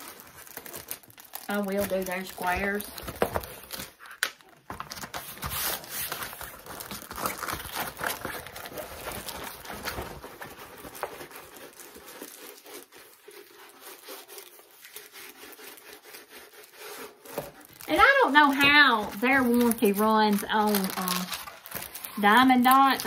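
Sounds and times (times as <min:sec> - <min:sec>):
canvas and plastic crinkling: 0:00.0 - 0:23.0.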